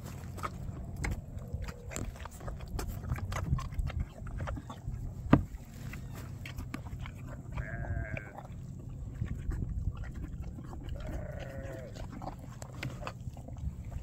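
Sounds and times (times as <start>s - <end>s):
foal slurping and chewing: 0.0s - 14.0s.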